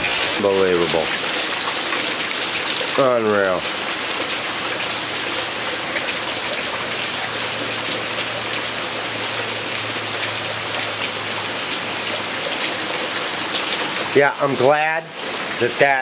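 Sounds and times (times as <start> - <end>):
heavy rain pouring: 0.0 - 16.0
raindrops ticking on ground: 0.0 - 16.0.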